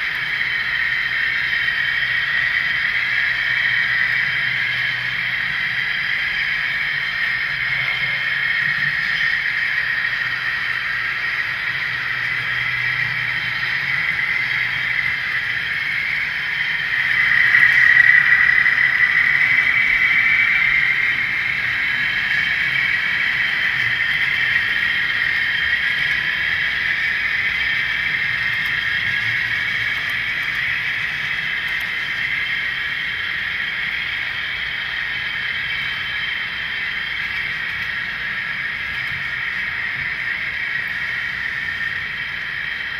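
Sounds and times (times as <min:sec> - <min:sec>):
model trains whirring on track: 0:00.0 - 0:42.9.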